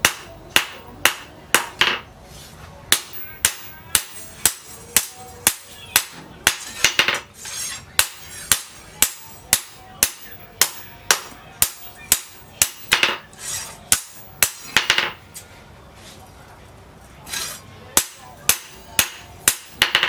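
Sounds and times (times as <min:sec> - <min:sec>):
hammer striking steel on anvil: 0:00.0 - 0:02.1, 0:02.9 - 0:15.2, 0:17.3 - 0:20.0.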